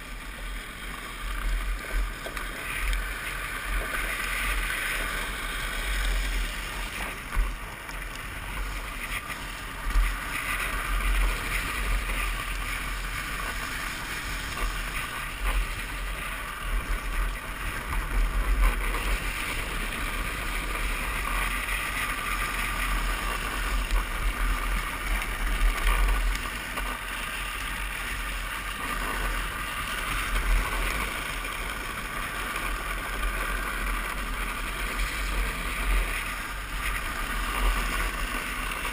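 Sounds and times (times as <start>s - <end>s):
plastic wheels rolling on asphalt: 0.0s - 38.9s.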